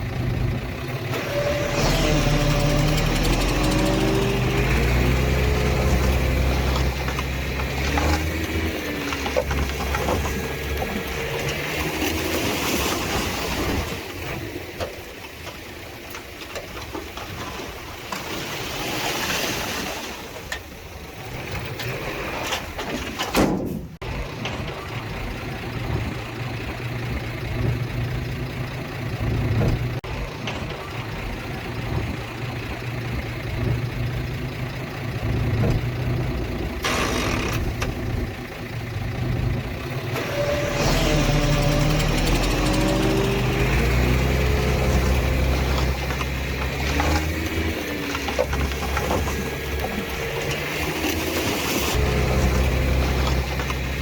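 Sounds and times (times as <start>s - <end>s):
heavy diesel machinery engine: 0.0s - 17.6s, 18.2s - 54.0s.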